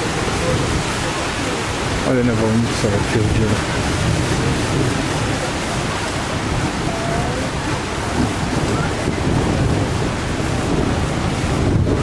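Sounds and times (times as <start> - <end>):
rain: 0.0 - 12.0
wind gusting through trees: 0.0 - 12.0
wind rumble on microphone: 0.0 - 12.0.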